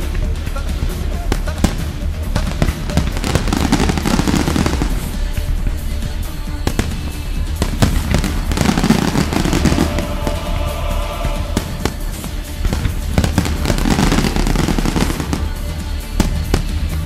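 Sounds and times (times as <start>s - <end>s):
background music: 0.0s - 17.0s
firework shells bursting: 0.0s - 17.0s.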